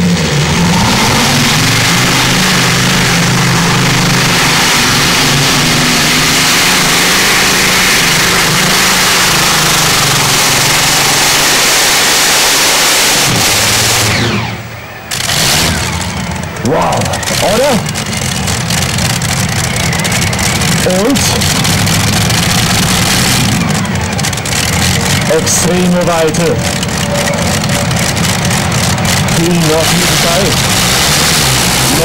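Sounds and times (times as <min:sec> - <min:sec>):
engines winding down: 0:00.0 - 0:32.0
loud engines blaring: 0:00.0 - 0:32.0.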